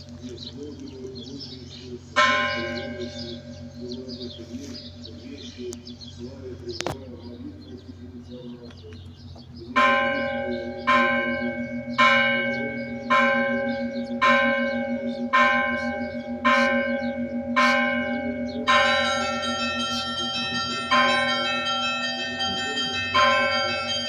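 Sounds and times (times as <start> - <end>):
church bell ringing: 0.0 - 8.6, 9.6 - 24.0
more bells ringing: 0.0 - 24.0.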